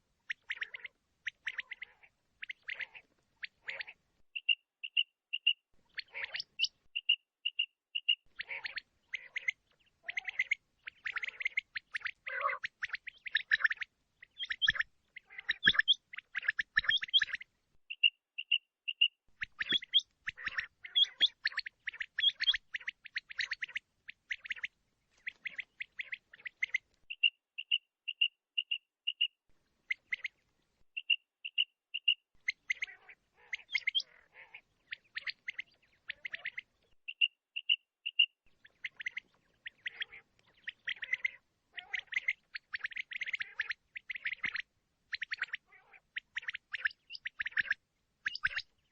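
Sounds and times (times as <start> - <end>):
quail harsh chirping: 0.3 - 29.3, 29.9 - 30.4, 31.0 - 48.9
quail whistled calls: 0.3 - 30.4, 31.0 - 48.9.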